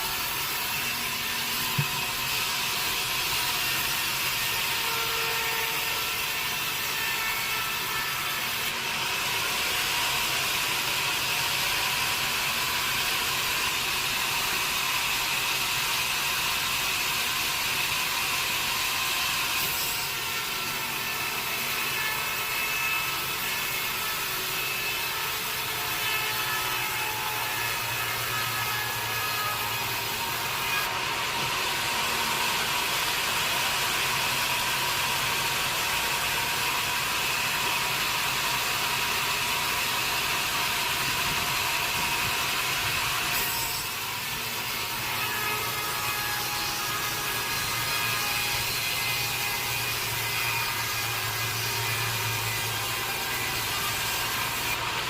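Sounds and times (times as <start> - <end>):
saw cutting through log: 0.0 - 55.0.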